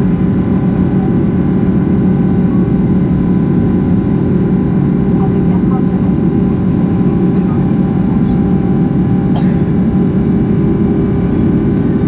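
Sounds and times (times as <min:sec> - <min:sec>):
jet engine cabin roar: 0:00.0 - 0:12.0.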